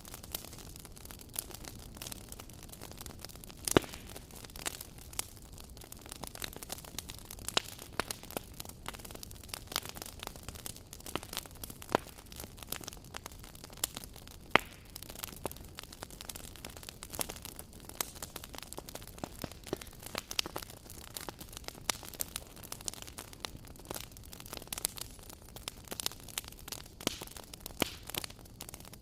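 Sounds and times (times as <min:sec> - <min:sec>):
fire popping: 0:00.0 - 0:29.0
wood fire crackling: 0:00.0 - 0:29.0.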